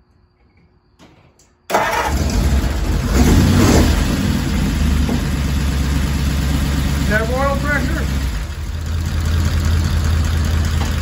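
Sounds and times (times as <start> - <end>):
engine starting and idling: 1.7 - 11.0.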